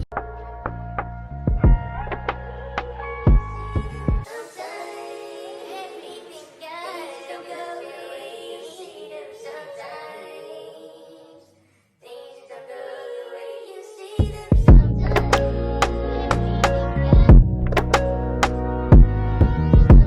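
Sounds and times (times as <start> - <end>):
music with singing voice: 0.0 - 11.5, 12.1 - 20.0.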